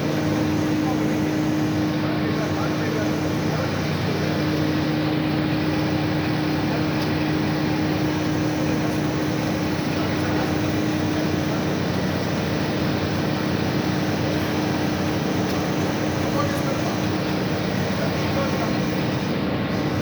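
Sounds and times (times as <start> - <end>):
machine running with hum: 0.0 - 20.0.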